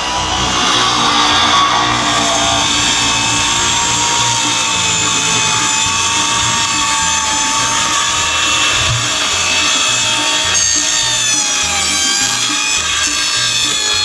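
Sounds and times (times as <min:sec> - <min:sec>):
power saw cutting wood: 0:00.0 - 0:14.0.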